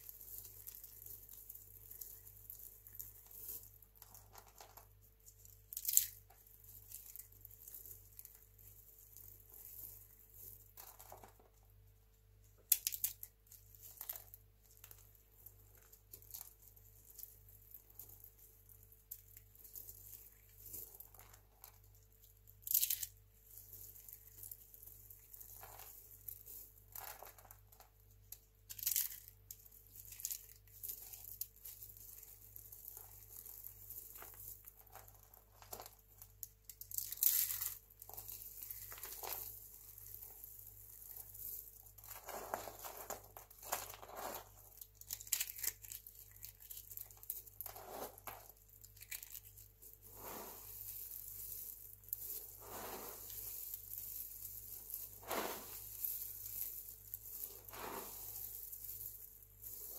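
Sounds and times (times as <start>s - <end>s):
soap flakes rustling and crunching: 0.0s - 59.9s.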